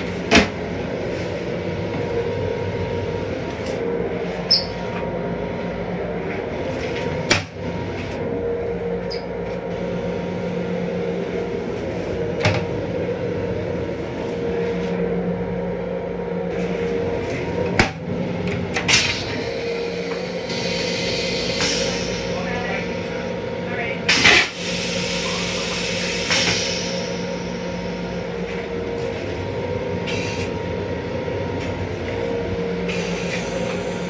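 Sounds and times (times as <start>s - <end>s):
railcar mechanical hum: 0.0s - 34.0s.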